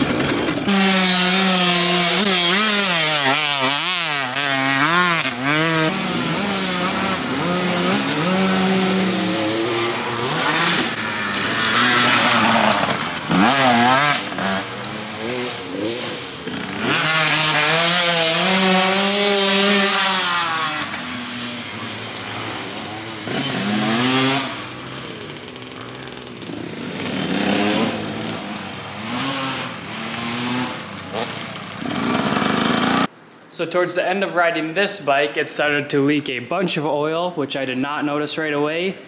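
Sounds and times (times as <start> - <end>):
dirt bike engine revving: 0.0 - 33.1.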